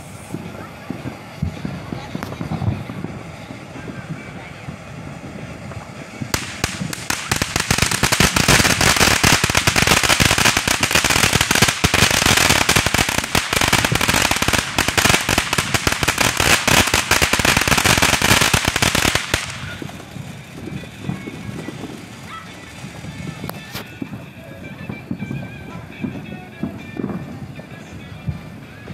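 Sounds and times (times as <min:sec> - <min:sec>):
firework fountain hissing and crackling: 0:00.0 - 0:28.9.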